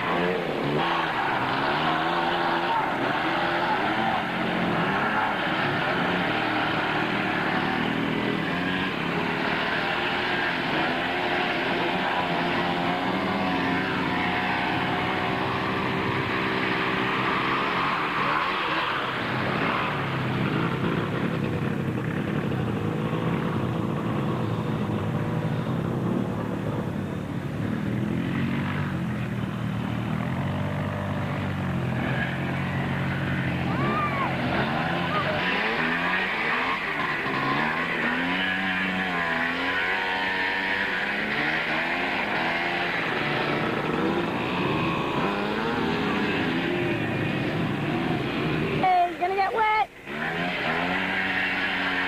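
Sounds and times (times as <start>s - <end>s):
quad engines revving: 0.0s - 52.0s.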